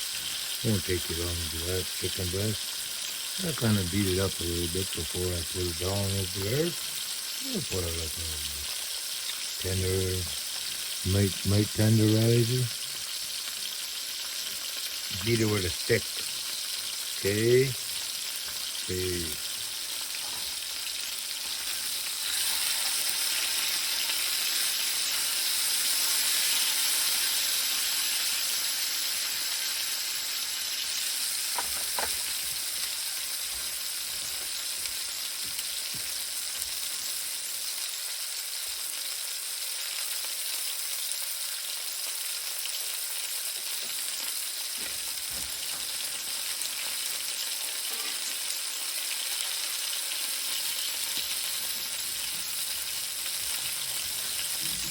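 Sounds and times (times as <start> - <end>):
food sizzling in hot fat: 0.0 - 54.9.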